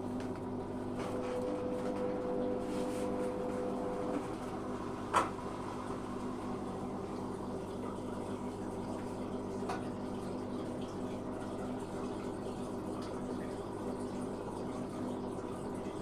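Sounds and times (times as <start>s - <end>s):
washing machine hum: 0.0s - 16.0s
water sloshing in washing machine: 0.0s - 16.0s.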